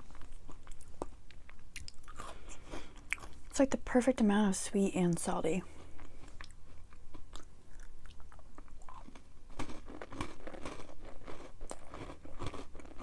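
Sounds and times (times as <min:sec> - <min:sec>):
crunchy chewing: 0:00.0 - 0:03.5, 0:05.7 - 0:13.0.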